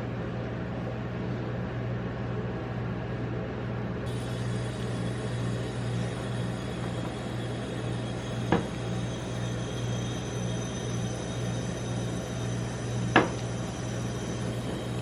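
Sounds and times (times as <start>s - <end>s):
refrigeration unit humming: 0.0s - 15.0s.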